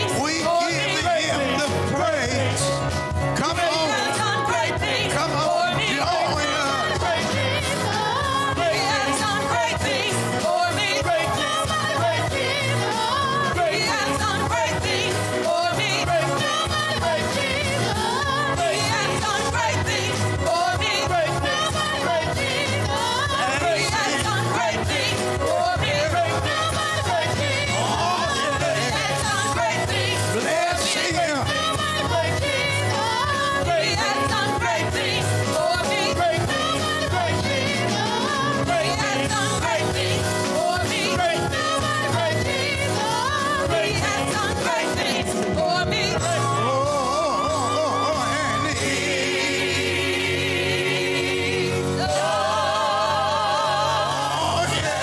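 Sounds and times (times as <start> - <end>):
choir singing: 0.0 - 55.0
instrumental backing with bass: 0.0 - 55.0
lead singer: 0.0 - 55.0.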